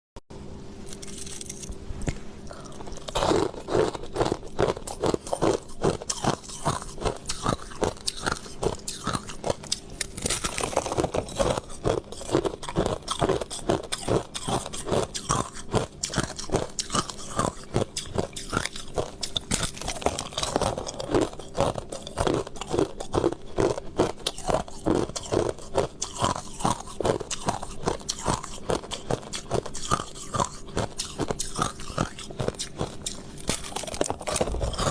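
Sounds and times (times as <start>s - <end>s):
faint steady hum: 0.3s - 34.9s
crunching and chewing ice: 0.8s - 34.9s.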